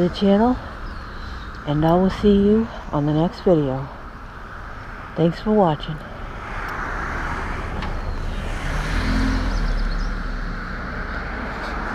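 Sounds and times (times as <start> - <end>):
vehicle passing by: 2.0 - 11.9.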